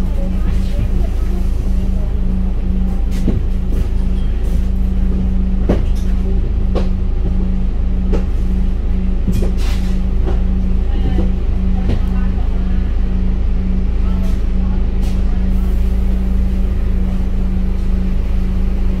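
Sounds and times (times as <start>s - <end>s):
diesel bus engine rumble: 0.0s - 19.0s.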